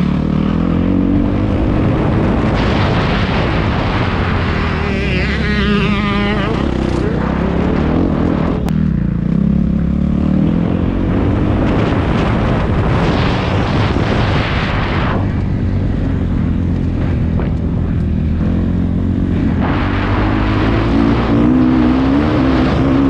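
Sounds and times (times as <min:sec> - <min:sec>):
dirt bike engine running: 0:00.0 - 0:23.0
rushing noise: 0:00.9 - 0:09.2, 0:10.3 - 0:23.0.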